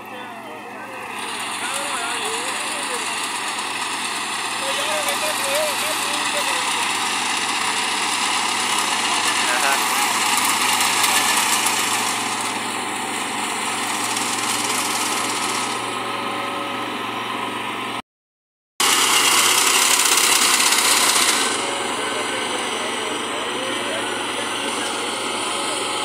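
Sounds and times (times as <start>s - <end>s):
combine harvester engines running: 0.0s - 18.0s, 18.8s - 26.0s.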